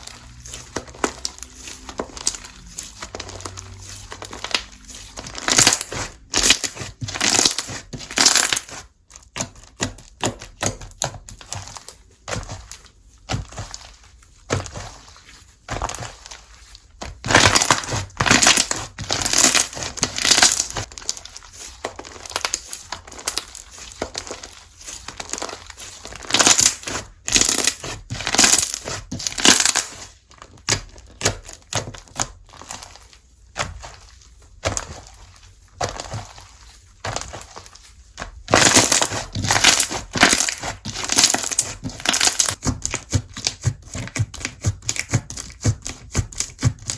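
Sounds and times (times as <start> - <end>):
slime crackling and squishing: 0.0 - 46.9.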